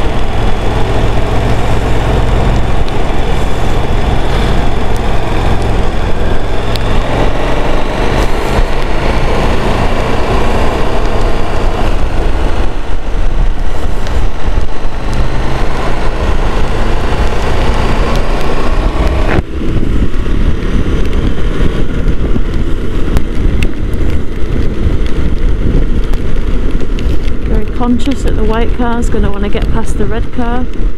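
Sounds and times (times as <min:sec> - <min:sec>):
motorcycle engine: 0:00.0 - 0:28.6
wind rush: 0:00.0 - 0:30.9.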